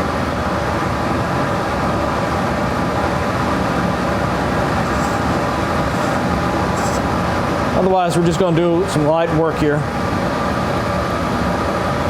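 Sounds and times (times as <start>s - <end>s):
metal lathe humming: 1.3s - 12.0s.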